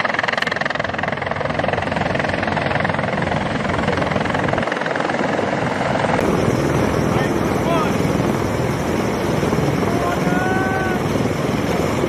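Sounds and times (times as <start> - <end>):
helicopter rotor blades chopping: 0.0 - 12.0.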